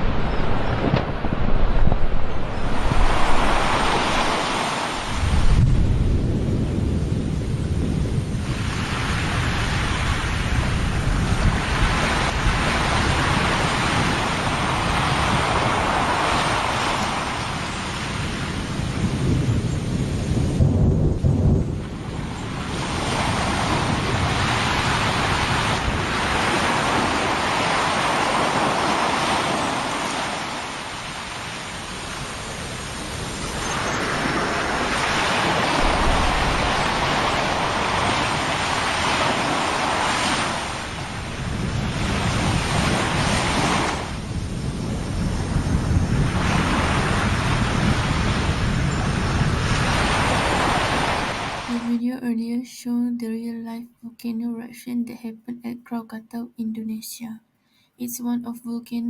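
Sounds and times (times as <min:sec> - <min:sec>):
volcano rumbling: 0:00.0 - 0:51.7
wind on microphone: 0:00.0 - 0:51.8.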